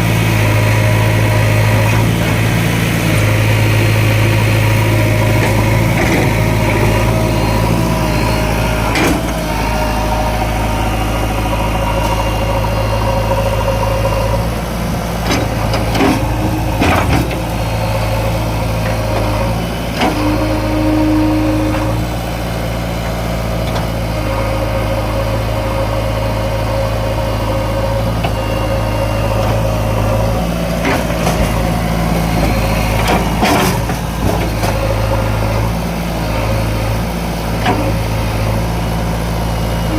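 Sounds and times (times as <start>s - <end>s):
diesel engine running: 0.0s - 39.9s
high engine whine: 0.0s - 39.9s.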